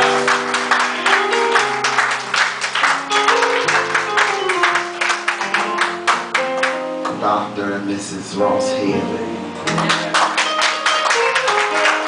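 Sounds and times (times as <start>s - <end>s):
held keyboard chords: 0.0s - 12.0s.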